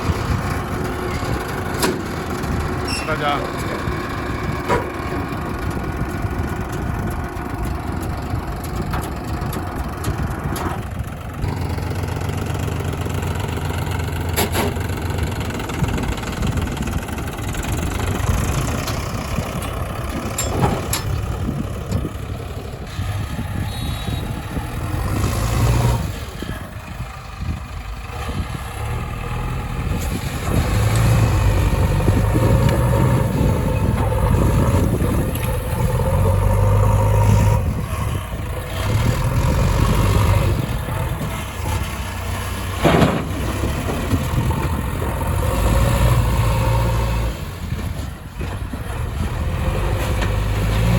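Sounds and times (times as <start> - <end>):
diesel engines running under load: 0.0 - 50.9.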